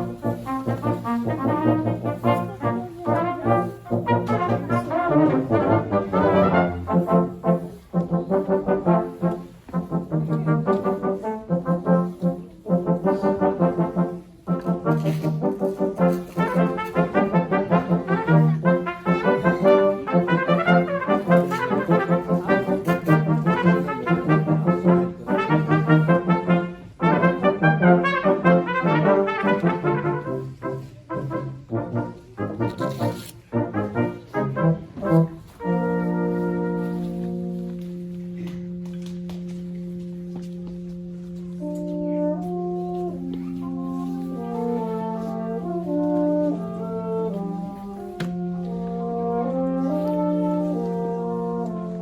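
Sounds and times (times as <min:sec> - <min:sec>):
brass quartet playing: 0:00.0 - 0:52.0.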